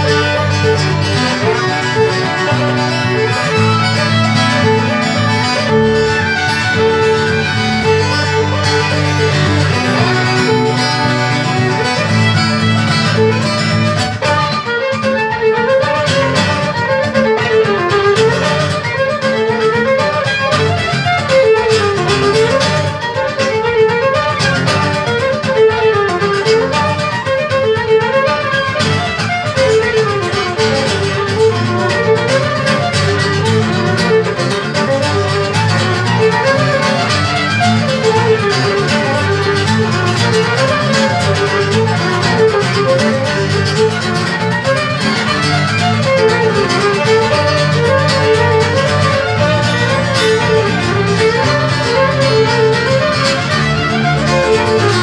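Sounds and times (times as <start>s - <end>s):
guitar accompaniment: 0.0s - 55.0s
violin melody: 0.0s - 55.0s.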